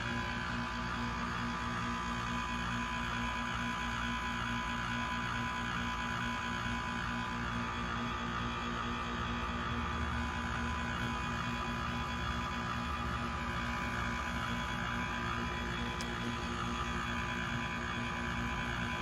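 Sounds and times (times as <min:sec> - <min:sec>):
heat pump compressor hum: 0:00.0 - 0:19.0.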